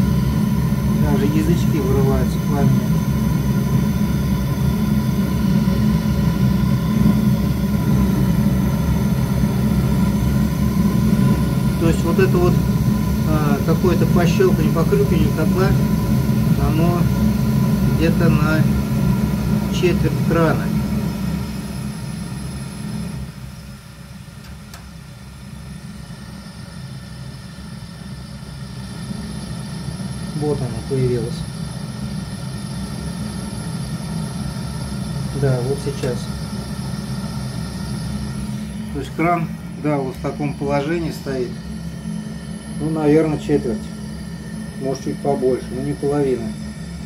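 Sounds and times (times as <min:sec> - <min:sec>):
gas boiler burner rumbling: 0:00.0 - 0:47.0.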